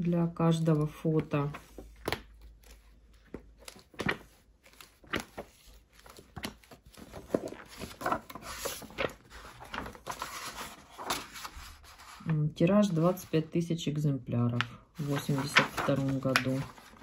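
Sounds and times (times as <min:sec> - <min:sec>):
book pages turning: 0:00.9 - 0:13.4, 0:14.5 - 0:17.0.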